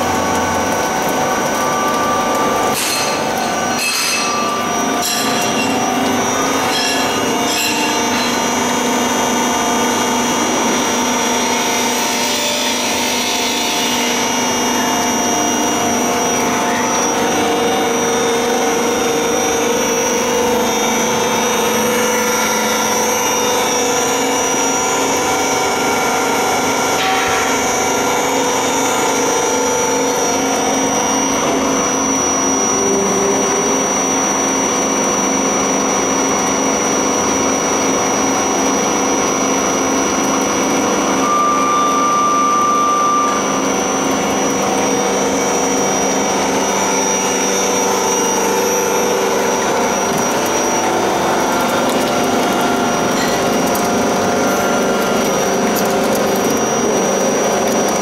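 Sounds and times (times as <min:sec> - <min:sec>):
oil press motor drone: 0:00.0 - 0:58.0.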